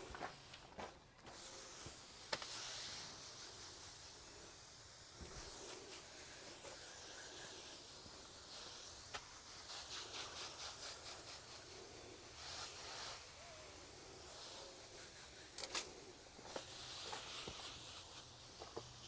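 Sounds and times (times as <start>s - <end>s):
garden sprayer hissing spurts: 0.0s - 19.0s.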